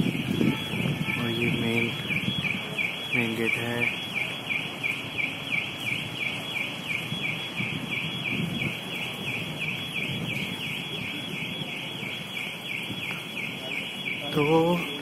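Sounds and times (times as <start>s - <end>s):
electronic alarm chirping: 0.0s - 15.0s.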